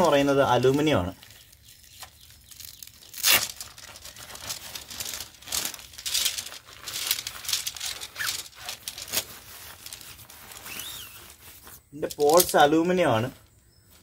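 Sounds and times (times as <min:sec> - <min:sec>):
tent fabric rustling: 0:00.0 - 0:14.0.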